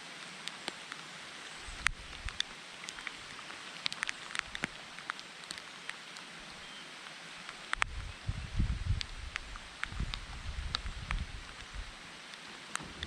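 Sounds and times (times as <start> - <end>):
raindrops ticking close by: 0.0 - 13.0
steady rain hissing: 0.0 - 13.0.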